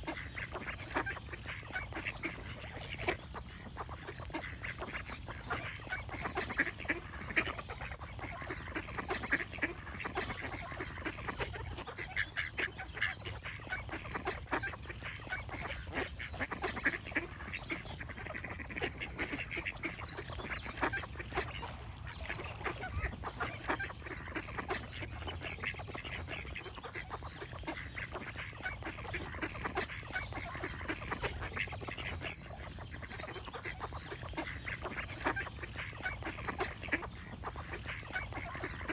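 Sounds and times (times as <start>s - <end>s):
ducks quacking: 0.0s - 38.9s.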